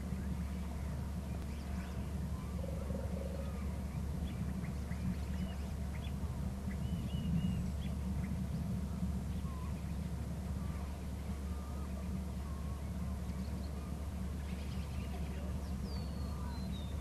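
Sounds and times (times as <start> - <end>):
steady low hum: 0.0 - 17.0
birds chirping: 0.1 - 17.0.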